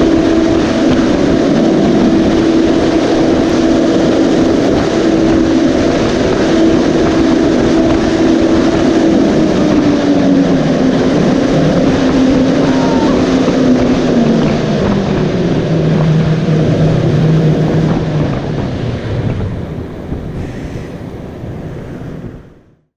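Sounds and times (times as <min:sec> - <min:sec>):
large fan humming: 0:00.0 - 0:22.7
wind rushing over microphone: 0:00.0 - 0:22.9.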